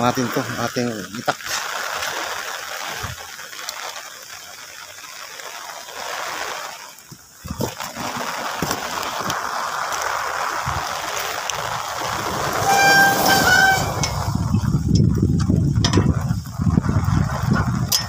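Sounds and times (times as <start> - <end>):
running water splashing: 0.0 - 18.0.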